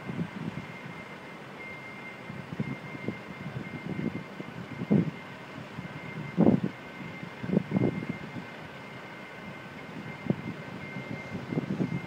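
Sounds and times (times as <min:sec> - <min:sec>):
wind buffeting microphone: 0:00.0 - 0:01.0, 0:02.3 - 0:08.8, 0:09.6 - 0:12.0.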